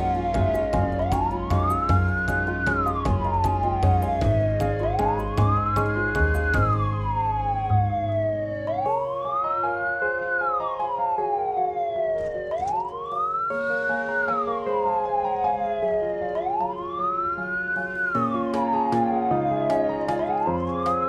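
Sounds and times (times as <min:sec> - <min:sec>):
ambulance siren wailing: 0:00.0 - 0:21.0
background music: 0:00.0 - 0:21.0.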